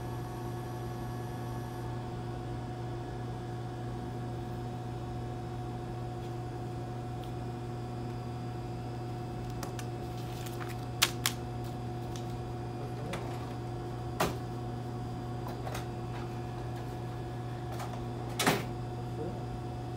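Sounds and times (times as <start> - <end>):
store equipment hum: 0.0 - 19.9.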